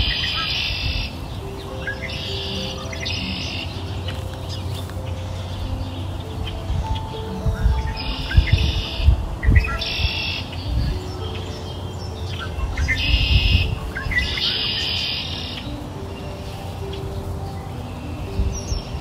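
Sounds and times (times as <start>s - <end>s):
birds chirping: 0.0s - 19.0s
soft background music: 0.0s - 19.0s.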